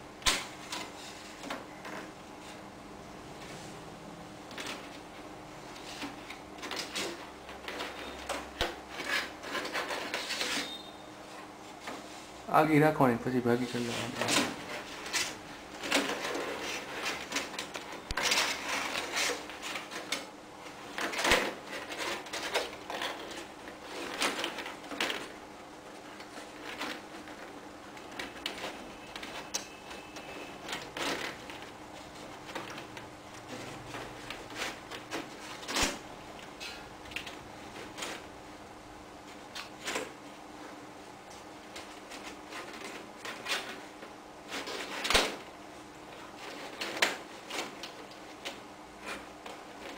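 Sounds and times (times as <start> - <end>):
plastic ceiling tile crackling: 4.4 - 12.2, 13.1 - 38.3, 39.2 - 49.9.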